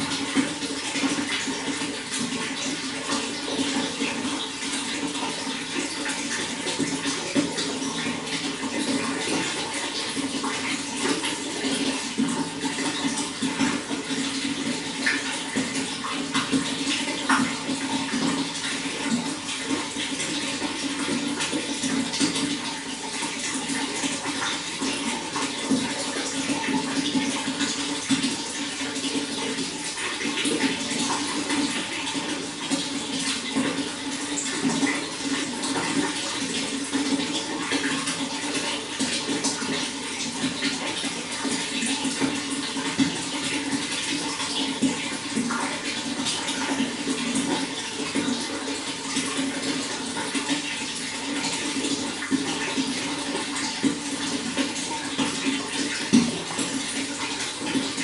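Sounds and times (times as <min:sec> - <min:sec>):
running water with splashes: 0:00.0 - 0:58.0.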